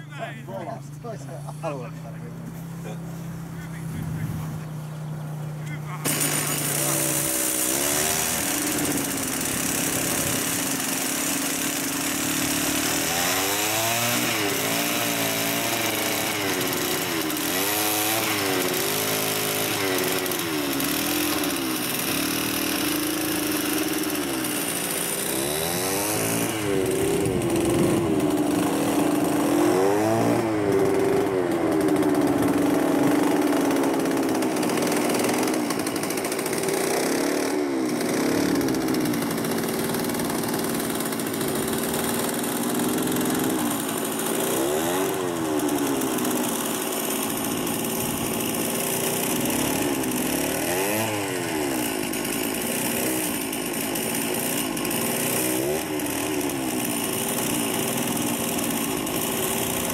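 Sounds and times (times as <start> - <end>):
small petrol engine revving: 0.0 - 59.9.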